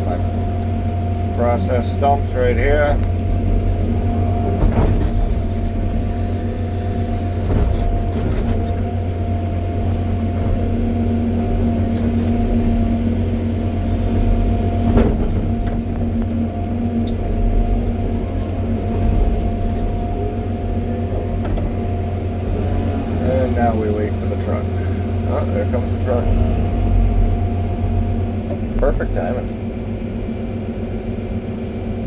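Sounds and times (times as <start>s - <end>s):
constant whine: 0.0s - 32.0s
excavator diesel engine running: 0.0s - 32.0s.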